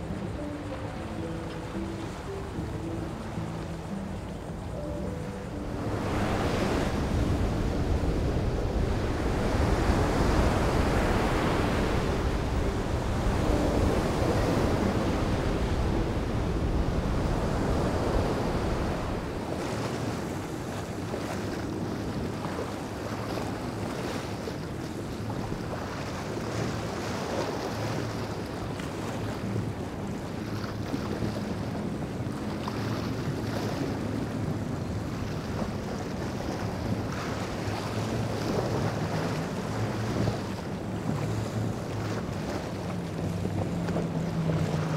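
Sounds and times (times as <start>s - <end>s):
wind and open sea: 0.0s - 44.9s.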